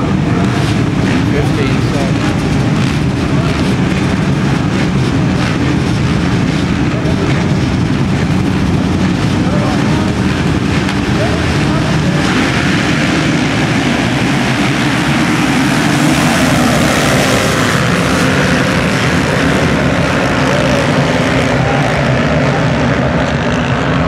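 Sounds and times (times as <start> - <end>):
motocross bike engines at high revs: 0.0 - 24.0.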